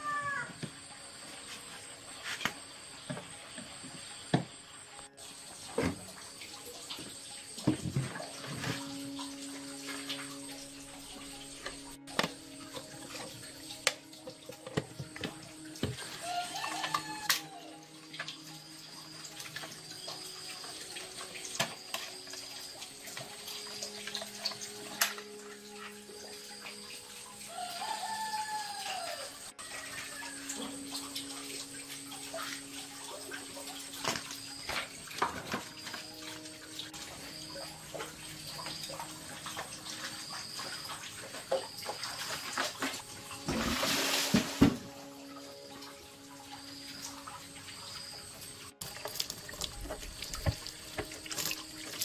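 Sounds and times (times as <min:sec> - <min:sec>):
running water: 0:00.0 - 0:52.0.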